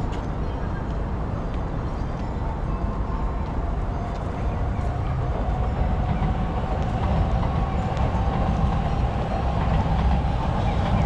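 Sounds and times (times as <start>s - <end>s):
train passing rumble: 0.0s - 11.0s.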